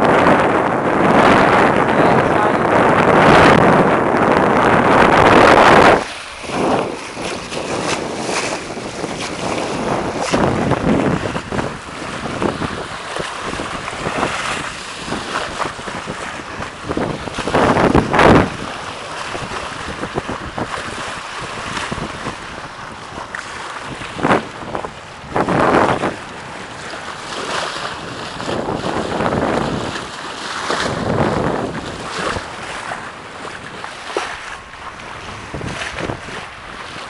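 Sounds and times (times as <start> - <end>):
water splashing along hull: 0.0 - 37.0
wind buffeting microphone: 0.0 - 37.0.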